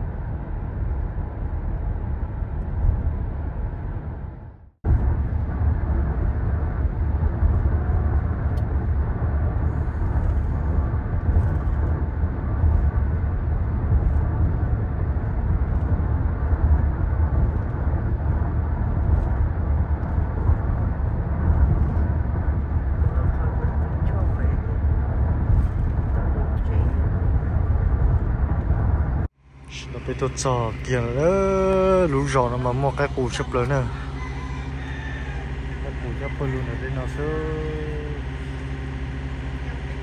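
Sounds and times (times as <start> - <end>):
low rumbling noise: 0.0 - 40.0.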